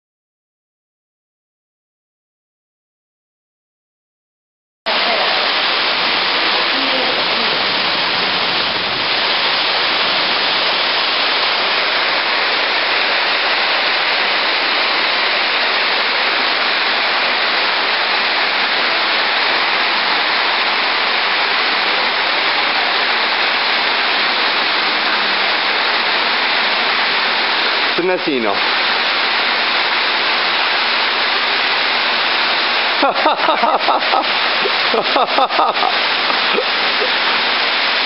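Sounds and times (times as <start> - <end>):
steady rushing hiss: 4.9 - 38.0.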